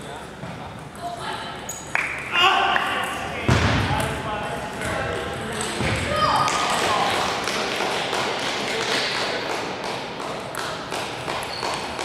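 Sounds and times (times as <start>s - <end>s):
sports hall din: 0.0s - 12.0s.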